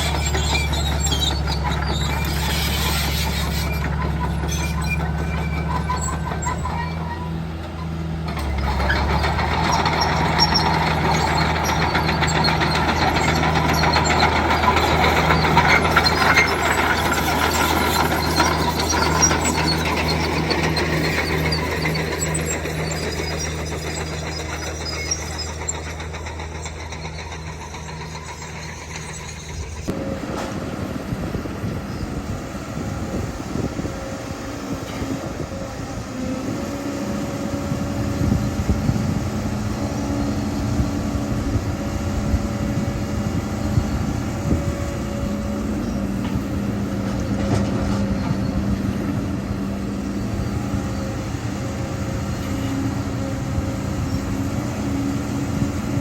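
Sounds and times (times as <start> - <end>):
heavy machinery diesel engine: 0.0 - 56.0
wavering engine whine: 9.2 - 56.0.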